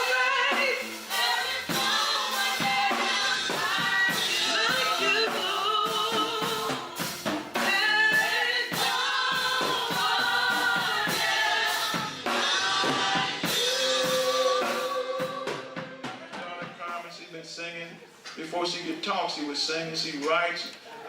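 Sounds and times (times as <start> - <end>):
band with drums: 0.0 - 17.3
voices singing gospel: 0.0 - 17.7.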